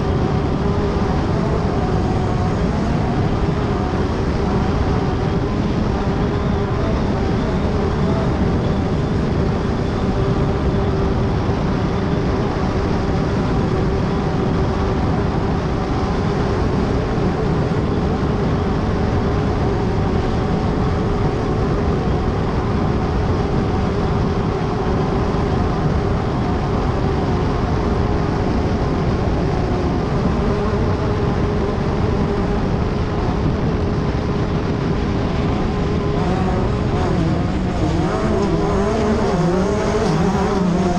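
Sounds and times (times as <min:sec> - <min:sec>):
heavy rumbling of car: 0:00.0 - 0:40.9.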